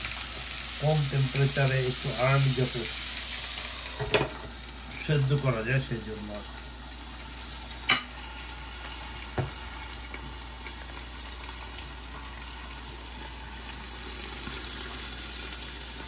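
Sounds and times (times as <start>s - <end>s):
food sizzling in grill pan: 0.0s - 16.0s.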